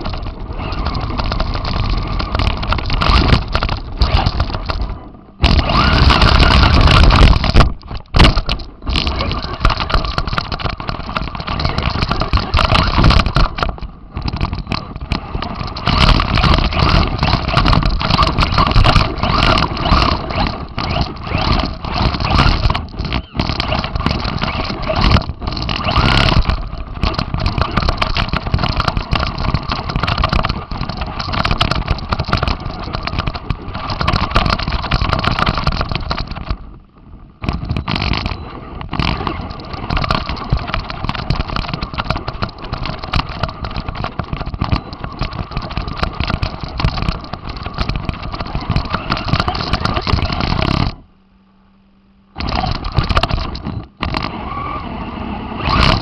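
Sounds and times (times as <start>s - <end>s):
toy car motor running: 0.0s - 36.7s, 37.4s - 51.0s, 52.3s - 56.0s
short clicks and knocks: 0.0s - 36.8s, 37.4s - 51.0s, 52.3s - 54.4s, 55.6s - 56.0s.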